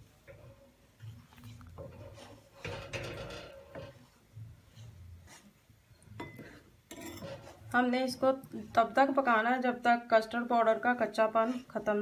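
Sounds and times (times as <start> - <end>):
wooden spatula scraping a pot: 0.0 - 9.4, 10.6 - 12.0.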